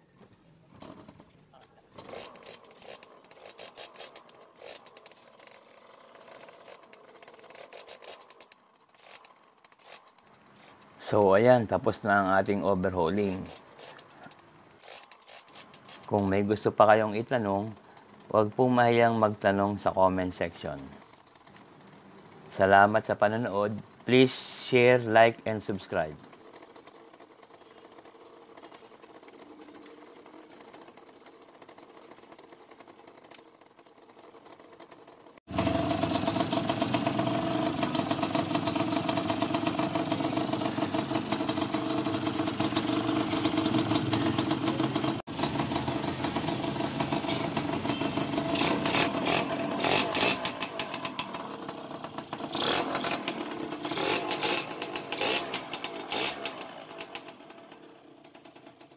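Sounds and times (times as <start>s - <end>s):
two-stroke motorcycle engine running: 0.1s - 58.9s.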